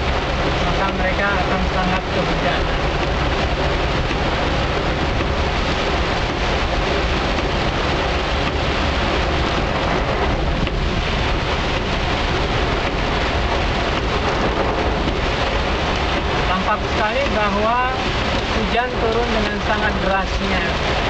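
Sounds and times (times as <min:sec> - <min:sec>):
heavy rain on vehicle roof: 0:00.0 - 0:21.0
vehicle engine and road rumble: 0:00.0 - 0:21.0.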